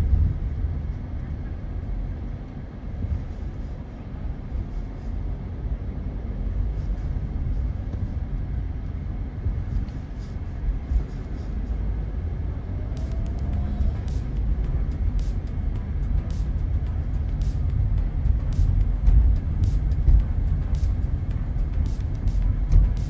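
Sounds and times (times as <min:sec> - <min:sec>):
vehicle driving on road: 0:00.0 - 0:23.0.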